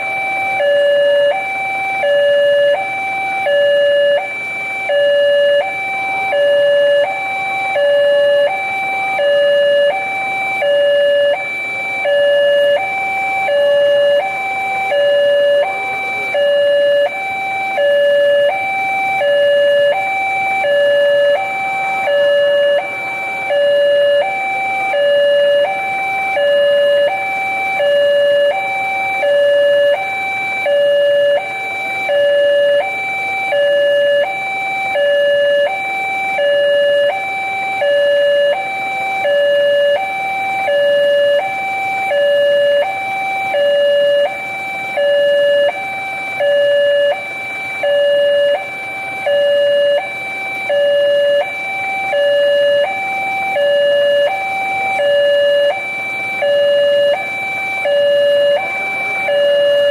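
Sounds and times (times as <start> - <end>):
two-tone crossing alarm: 0.0 - 59.9.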